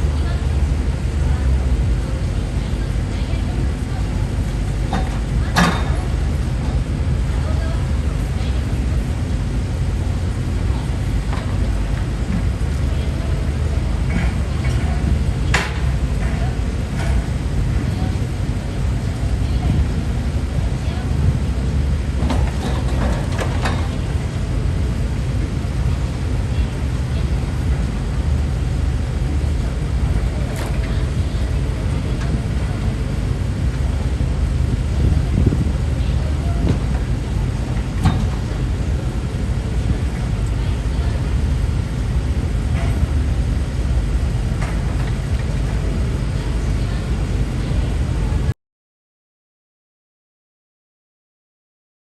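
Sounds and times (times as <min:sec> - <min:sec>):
large engine idling: 0:00.0 - 0:48.5.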